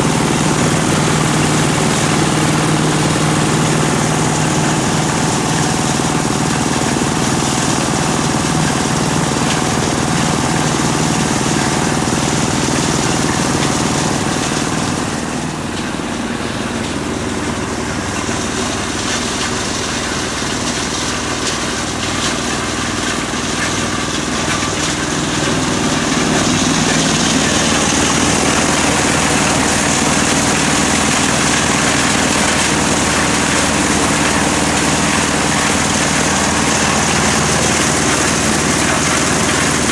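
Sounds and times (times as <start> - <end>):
corn sheller engine running: 0.0 - 39.9.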